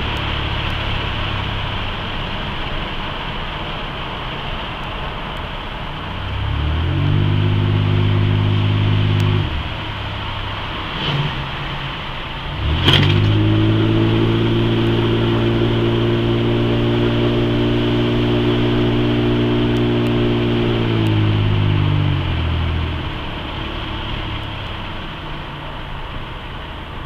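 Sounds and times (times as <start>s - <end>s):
car engine under throttle: 0.0s - 27.0s
tyre and road noise: 0.0s - 27.0s.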